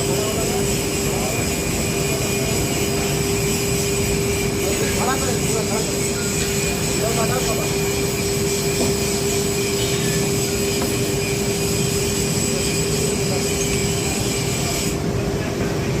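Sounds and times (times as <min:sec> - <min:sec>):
heavy industrial machinery running: 0:00.0 - 0:16.0
high metallic squeal: 0:01.1 - 0:15.0.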